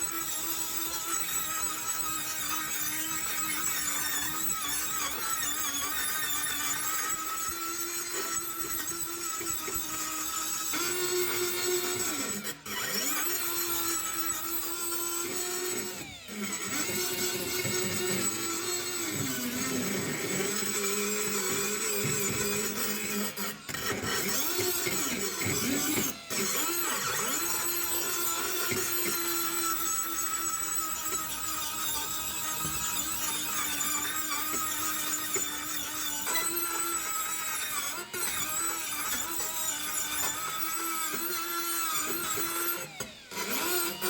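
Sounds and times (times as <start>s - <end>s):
small power tool motor: 0.0s - 44.0s.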